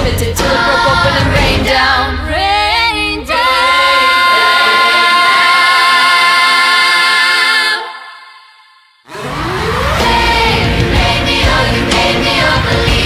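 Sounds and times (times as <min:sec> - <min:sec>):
pop song with singer: 0:00.0 - 0:08.4, 0:09.2 - 0:13.0.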